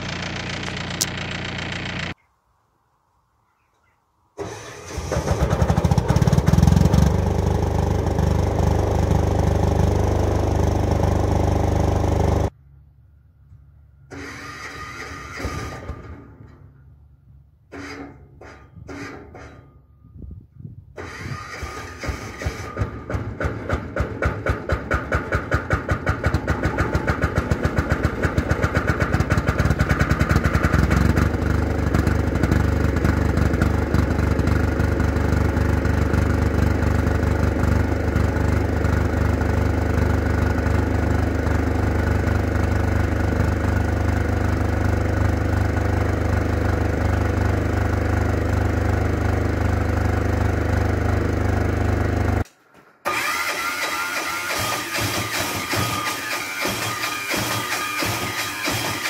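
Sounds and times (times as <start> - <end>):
diesel generator engine running: 0.0 - 2.2, 4.4 - 12.5, 21.0 - 52.4, 53.1 - 59.0.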